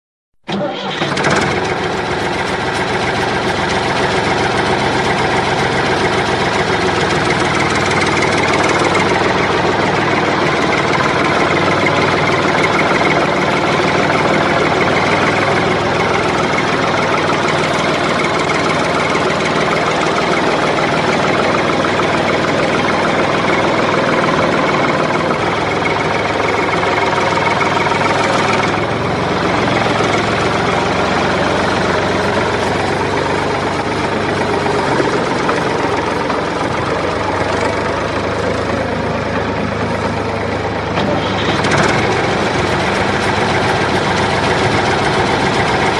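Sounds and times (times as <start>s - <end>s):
tractor engine running: 0.4s - 45.9s.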